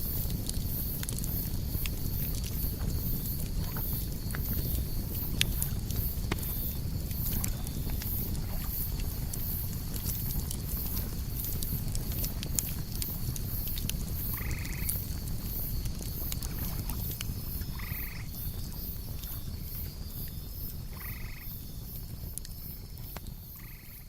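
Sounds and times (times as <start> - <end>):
campfire crackling: 0.0 - 24.0
crickets chirping: 0.0 - 24.0.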